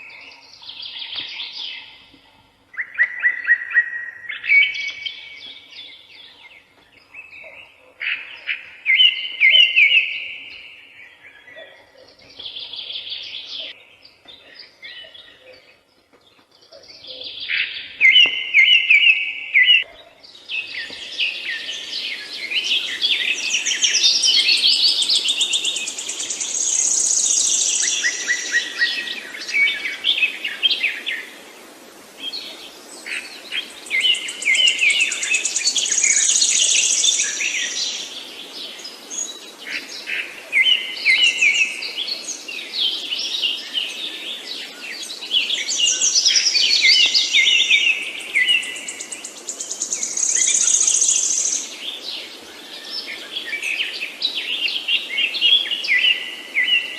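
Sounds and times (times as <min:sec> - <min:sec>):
songbirds singing and chirping: 0:00.0 - 0:56.9.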